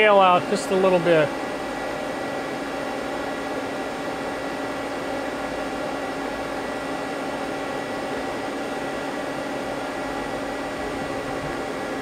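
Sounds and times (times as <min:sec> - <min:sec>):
faint steady whine: 0:00.0 - 0:12.0
lathe machine hum and hiss: 0:00.0 - 0:12.0.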